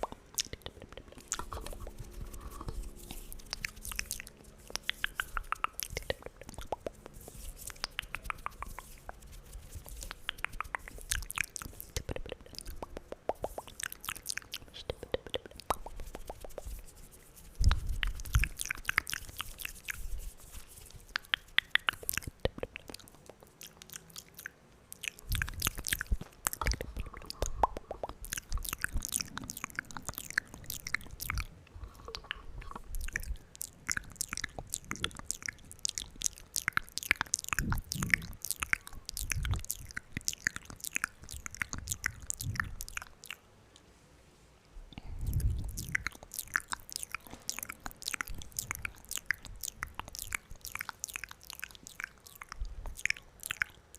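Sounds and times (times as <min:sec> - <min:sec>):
lip smacks: 0:00.0 - 0:43.9, 0:44.9 - 0:53.9
tongue clicks: 0:00.0 - 0:43.9, 0:44.9 - 0:53.9.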